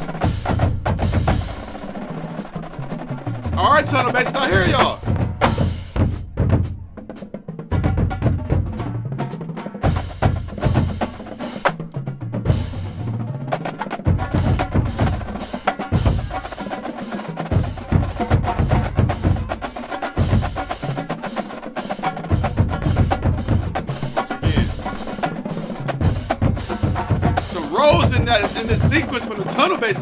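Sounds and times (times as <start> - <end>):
bass drums: 0.0 - 16.8, 17.4 - 21.2, 22.1 - 30.0
snare and tom drum patterns: 0.0 - 30.0.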